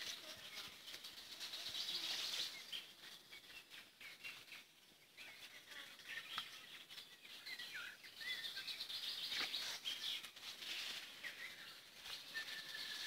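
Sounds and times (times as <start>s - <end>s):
songbirds chirping and singing: 0.0s - 13.0s.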